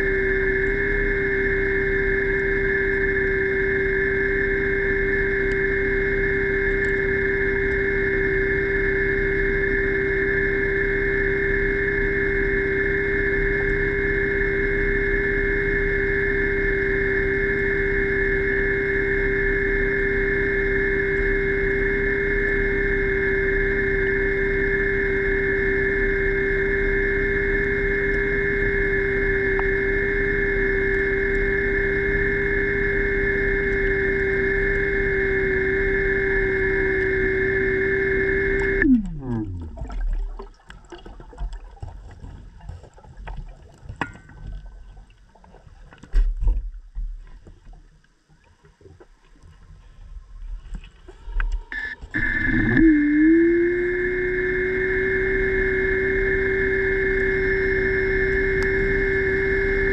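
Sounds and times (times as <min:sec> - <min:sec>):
underwater electric motor whine: 0:00.0 - 0:59.9.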